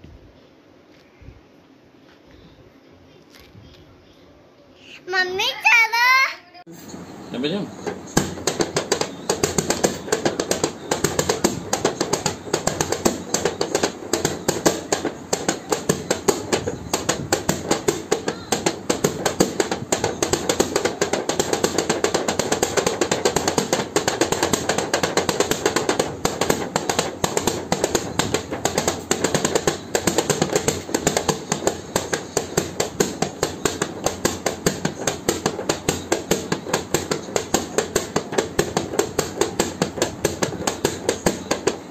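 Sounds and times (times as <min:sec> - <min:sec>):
rapid knocking: 0:07.4 - 0:41.9.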